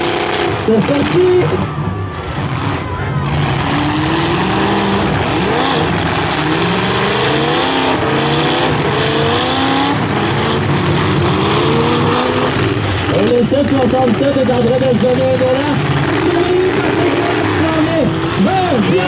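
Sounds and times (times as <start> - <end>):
car engines revving hard: 0.0 - 19.0
din of engine noise: 0.0 - 19.0.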